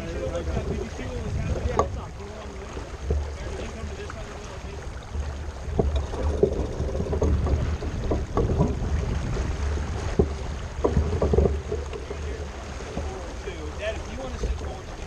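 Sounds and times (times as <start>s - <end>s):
boat knocks: 0.0s - 15.0s
water rushing past hull: 0.0s - 15.0s
wind buffeting microphone: 0.0s - 15.0s.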